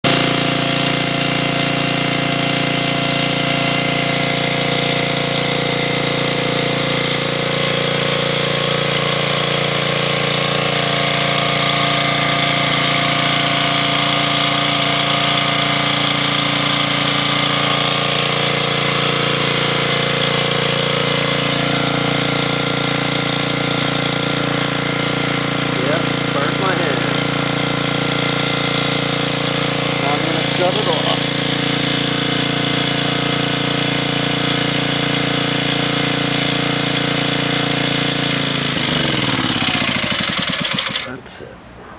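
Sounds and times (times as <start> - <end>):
generator engine running: 0.0 - 41.6.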